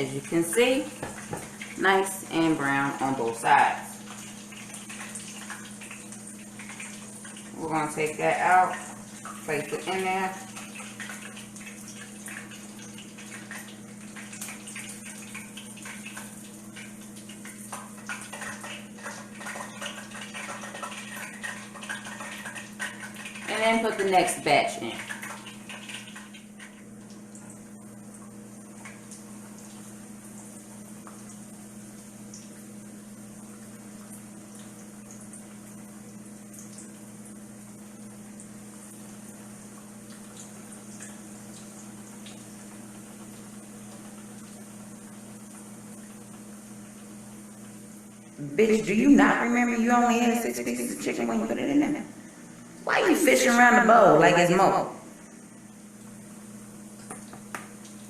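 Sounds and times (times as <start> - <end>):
low steady hum: 0.0 - 58.0
oil sizzling and crackling: 0.0 - 58.0.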